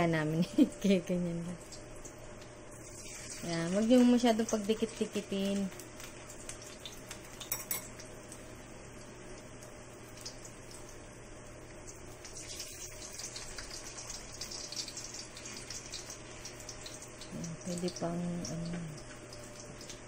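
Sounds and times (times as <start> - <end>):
leaves frying in hot oil: 0.0 - 20.0.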